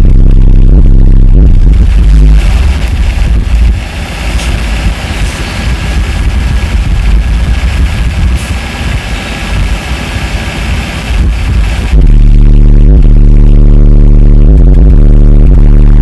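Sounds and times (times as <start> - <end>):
subwoofer playing music: 0.0 - 16.0.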